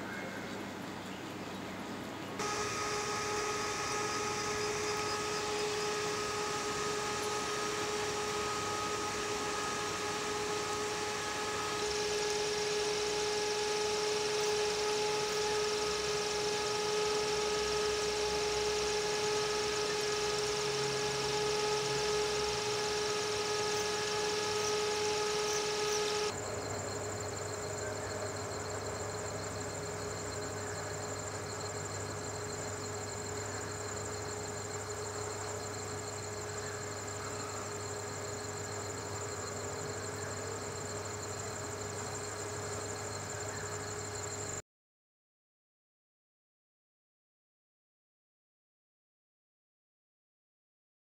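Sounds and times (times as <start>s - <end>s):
aquarium equipment humming: 1.8s - 44.6s.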